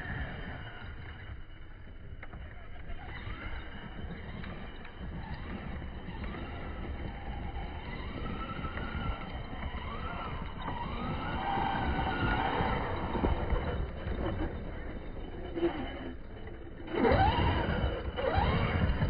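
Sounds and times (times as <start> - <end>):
electric motor whining: 3.0 - 19.0.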